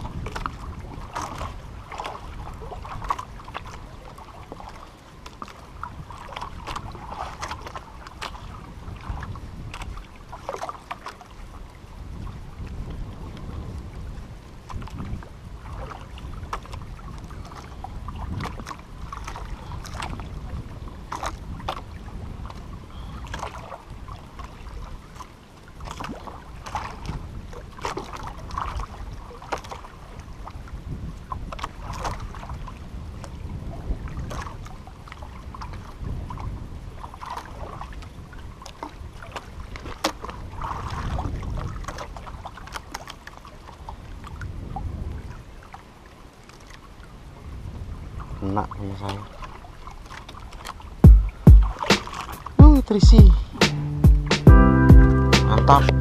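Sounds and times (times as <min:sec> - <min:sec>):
wind rumble on microphone: 0:00.0 - 0:43.0, 0:43.6 - 0:46.0, 0:47.0 - 0:52.6
water lapping against a hull: 0:00.0 - 0:52.6.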